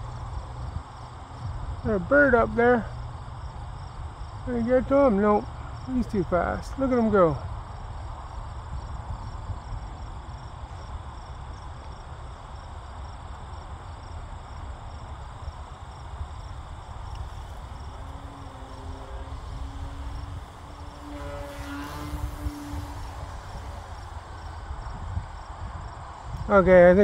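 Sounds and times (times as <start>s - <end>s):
model plane motor hum: 2.4s - 26.5s.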